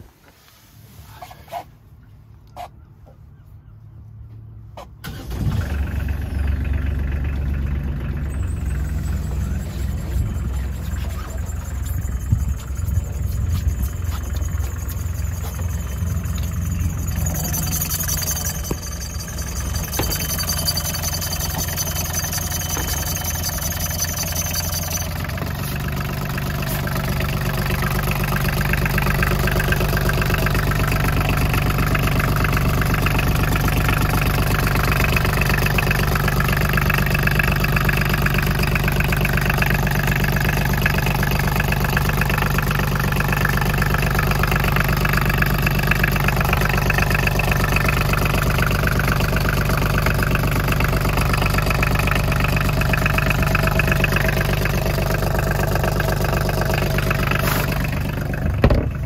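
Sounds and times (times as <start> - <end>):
diesel engine idling: 5.0 - 59.0.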